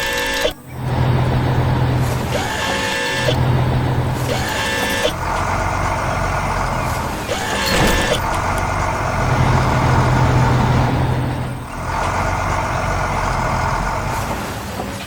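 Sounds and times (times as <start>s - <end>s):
truck engine humming: 0.0s - 15.0s.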